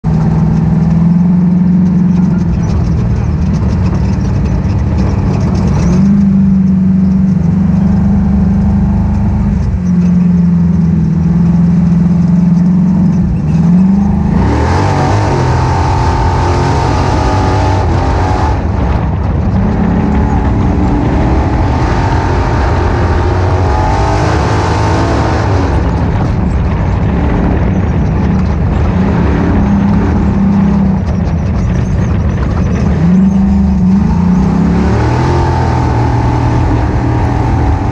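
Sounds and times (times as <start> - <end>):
race car engine revving: 0.0 - 37.9.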